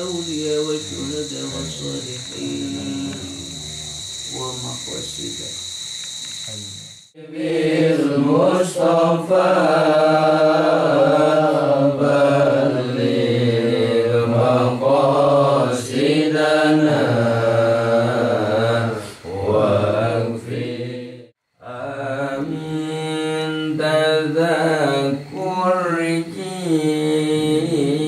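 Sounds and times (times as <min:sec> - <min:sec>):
men chanting prayers: 0:00.0 - 0:05.6, 0:06.5 - 0:28.0.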